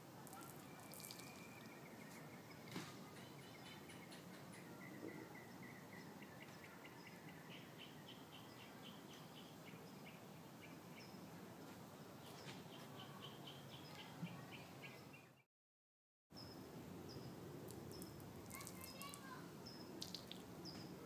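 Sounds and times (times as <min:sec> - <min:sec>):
quiet outdoor hiss: 0:00.0 - 0:15.4, 0:16.4 - 0:21.0
bird chirping: 0:00.3 - 0:11.3, 0:12.2 - 0:15.4, 0:16.4 - 0:21.0.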